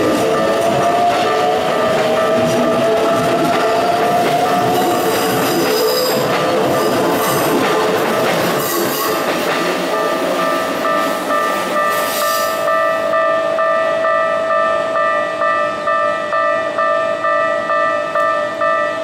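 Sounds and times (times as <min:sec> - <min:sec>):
level crossing warning bell: 0:00.0 - 0:19.0
train passing: 0:00.0 - 0:19.0.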